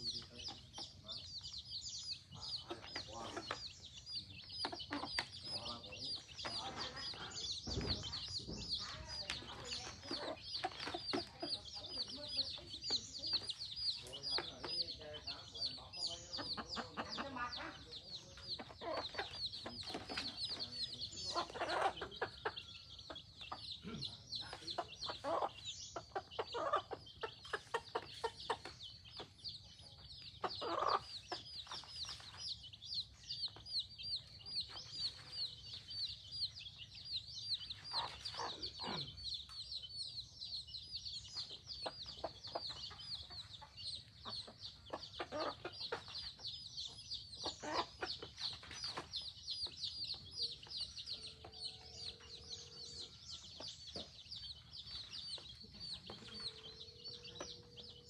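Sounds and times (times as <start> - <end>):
chickens clucking: 0.0 - 58.0
rapid high peeping: 0.0 - 58.0.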